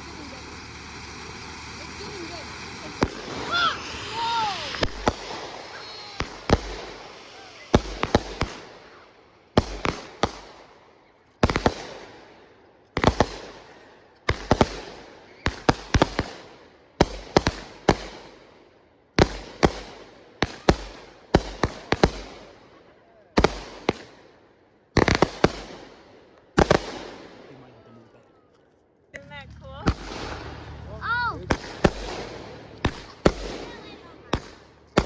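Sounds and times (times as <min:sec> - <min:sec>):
fireworks bangs with echo: 0:00.0 - 0:10.8, 0:11.4 - 0:27.8, 0:29.2 - 0:35.0.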